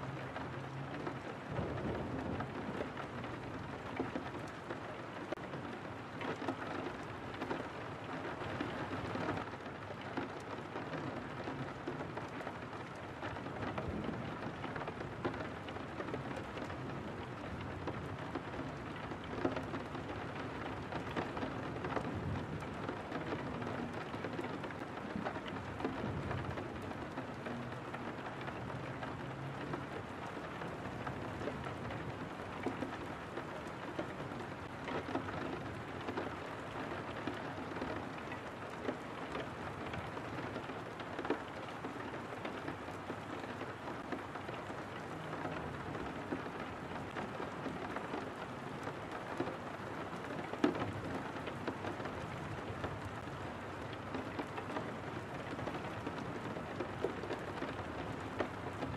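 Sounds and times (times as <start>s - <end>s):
rain ticking on window glass: 0.0s - 58.9s.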